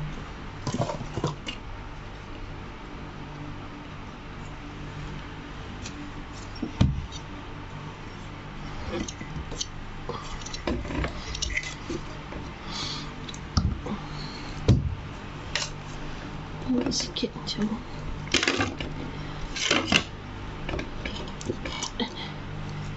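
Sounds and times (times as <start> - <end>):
low hum: 0.0 - 22.9.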